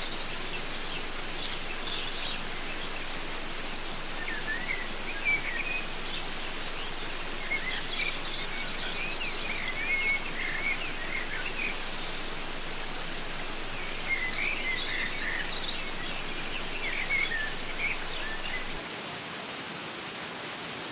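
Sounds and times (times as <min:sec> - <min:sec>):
birds chirping: 0:00.0 - 0:18.8
waterfall rushing: 0:00.0 - 0:20.9.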